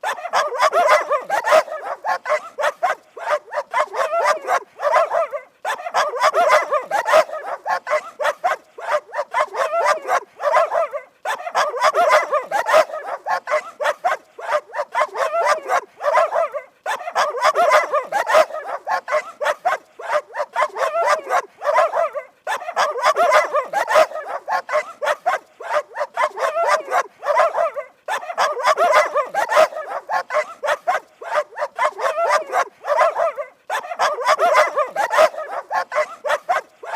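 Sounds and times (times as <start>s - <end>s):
dogs barking rapidly: 0.0s - 36.9s.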